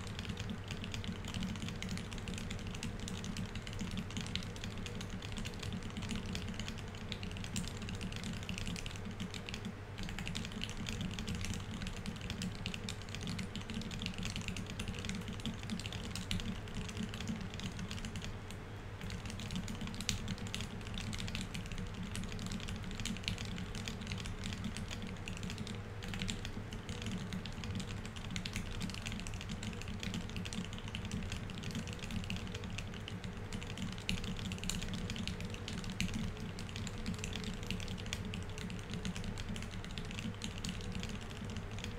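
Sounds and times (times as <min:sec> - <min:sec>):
fast mechanical keyboard typing: 0:00.0 - 0:41.9.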